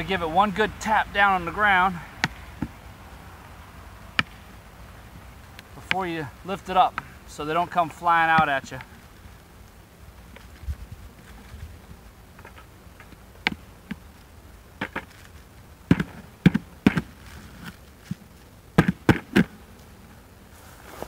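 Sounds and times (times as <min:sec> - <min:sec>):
bees buzzing faintly: 0:00.0 - 0:21.0.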